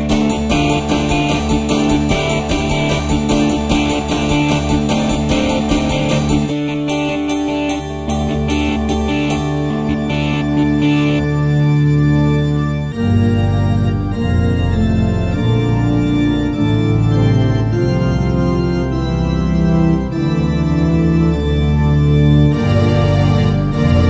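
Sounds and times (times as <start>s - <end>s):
sustained organ chords: 0.0s - 24.0s.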